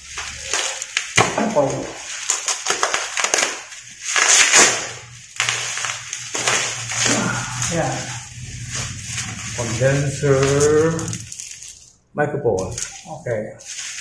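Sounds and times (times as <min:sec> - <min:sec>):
plastic packaging crinkling: 0:00.0 - 0:12.0, 0:12.6 - 0:14.0.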